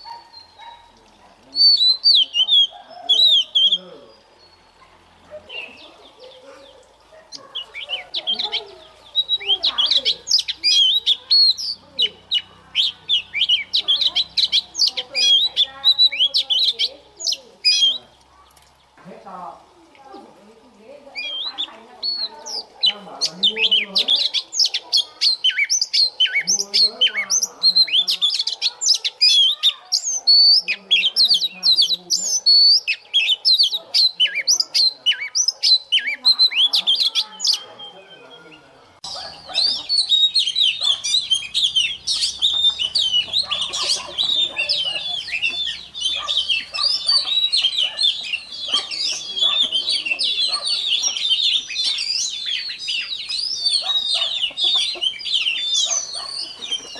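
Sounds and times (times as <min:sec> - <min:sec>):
bird twittering: 0:00.0 - 0:19.0, 0:21.0 - 0:56.9
bird singing whistled phrases: 0:01.5 - 0:04.8, 0:07.3 - 0:18.2, 0:21.1 - 0:56.9.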